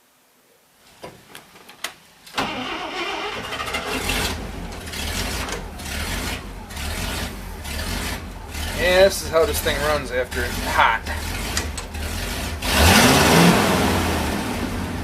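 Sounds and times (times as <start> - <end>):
engine starting and running: 2.4 - 15.0.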